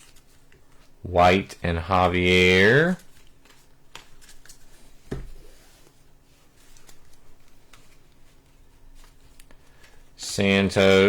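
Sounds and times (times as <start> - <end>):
trading cards rustling: 0.0 - 1.0, 1.6 - 11.0.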